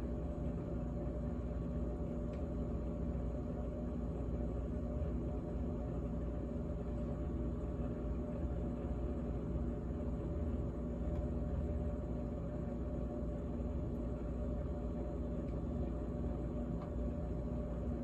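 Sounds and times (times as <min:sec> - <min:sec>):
refrigerator humming: 0:00.0 - 0:18.0.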